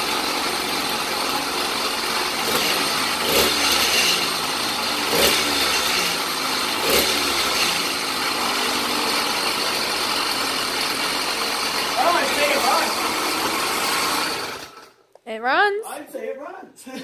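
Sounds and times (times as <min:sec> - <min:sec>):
two-stroke engine idling and revving: 0:00.0 - 0:14.9.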